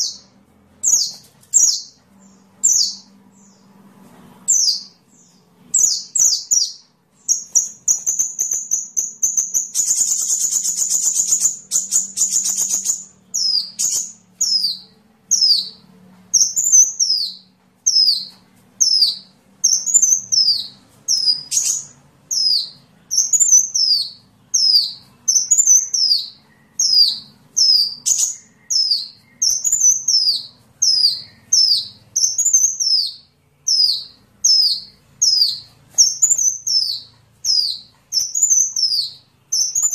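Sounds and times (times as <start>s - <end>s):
bird singing trills and chirps: 0.0s - 39.9s.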